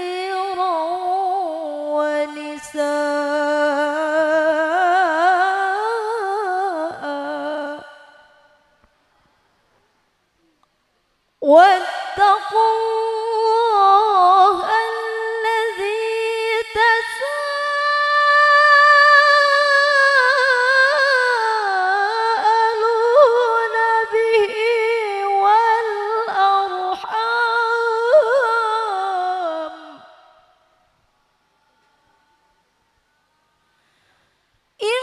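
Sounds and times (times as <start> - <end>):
woman reciting melodically: 0.0 - 8.8, 11.4 - 30.6, 34.8 - 35.0.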